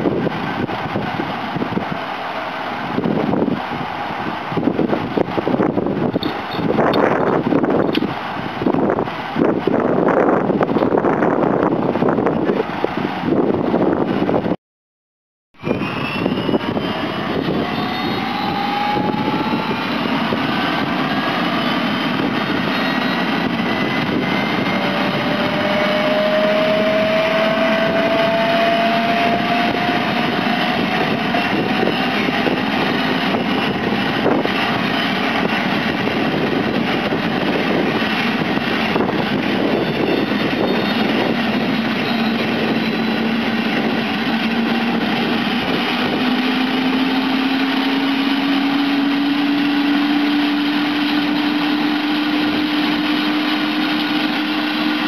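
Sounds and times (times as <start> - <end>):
helicopter running on ground: 0.0 - 14.6, 15.6 - 55.0
turbine whine: 0.0 - 14.6, 15.6 - 55.0.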